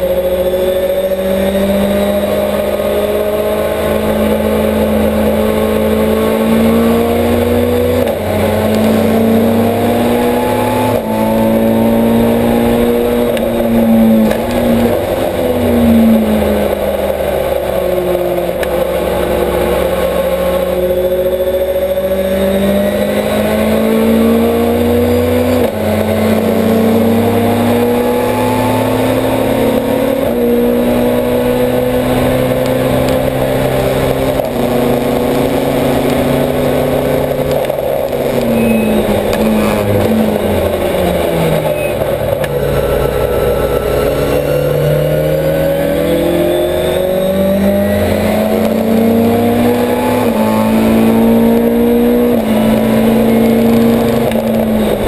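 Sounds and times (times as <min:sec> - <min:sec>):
race car engine shifting gears: 0:00.0 - 0:55.0.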